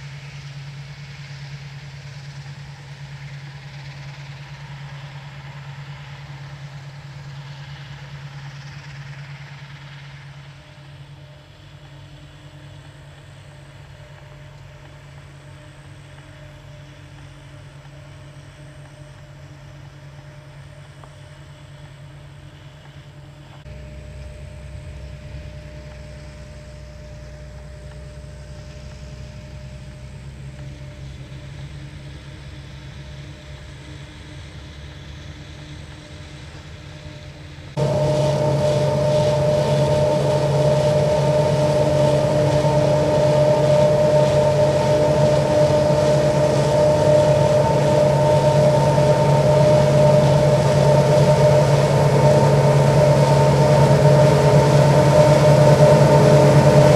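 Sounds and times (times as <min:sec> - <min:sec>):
forage harvester engine drone: 0:00.0 - 0:56.9.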